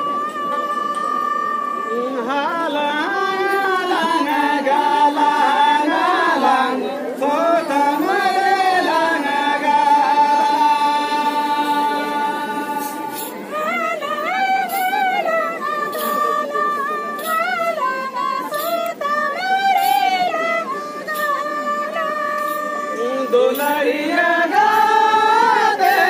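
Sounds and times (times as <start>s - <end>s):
group of women singing: 0.0s - 26.0s.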